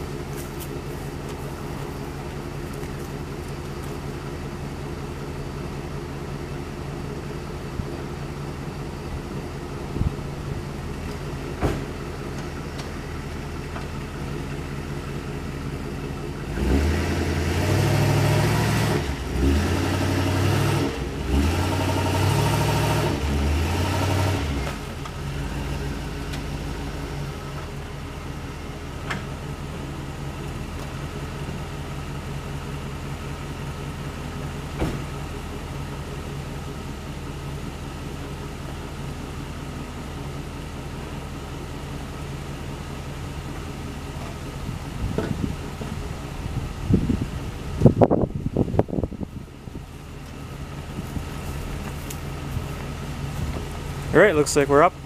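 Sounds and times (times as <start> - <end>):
van engine idling and revving: 0.0 - 55.0.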